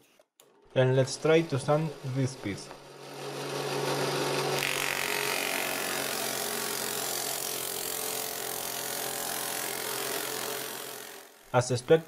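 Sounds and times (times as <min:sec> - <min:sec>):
drill press motor hum: 0:00.4 - 0:11.6.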